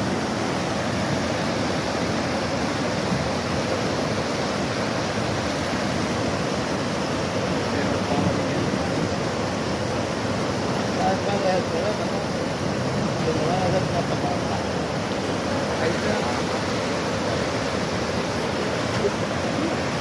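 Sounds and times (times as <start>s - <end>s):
rushing river water: 0.0s - 20.0s.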